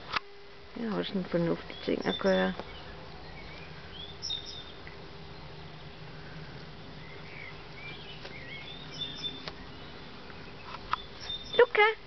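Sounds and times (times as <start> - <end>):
steady low hum: 0.0 - 12.0
faint bird chirps: 1.7 - 11.8.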